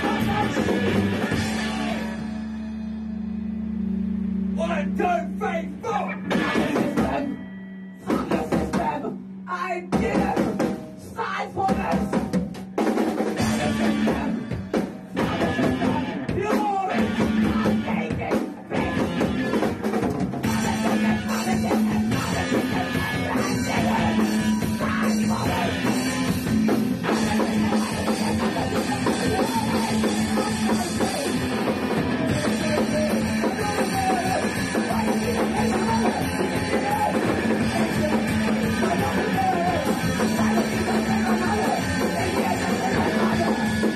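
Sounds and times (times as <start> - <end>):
electric guitar: 0.0 - 4.6, 13.3 - 43.9
drum kit: 0.0 - 43.9.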